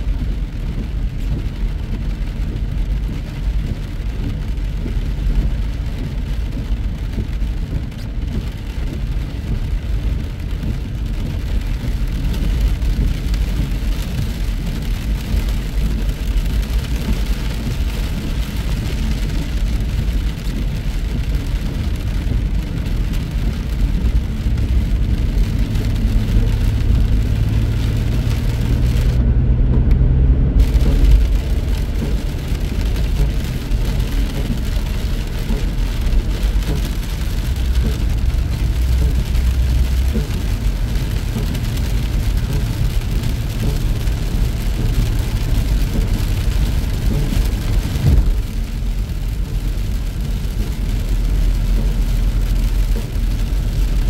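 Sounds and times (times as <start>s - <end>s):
low engine hum: 0.0s - 54.0s
rain and tyre spray hiss: 0.0s - 54.0s
road and engine rumble: 0.0s - 54.0s.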